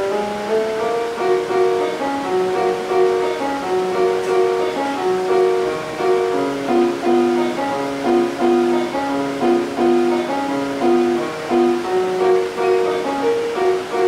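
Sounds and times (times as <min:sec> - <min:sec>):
slow instrumental music: 0:00.0 - 0:14.0.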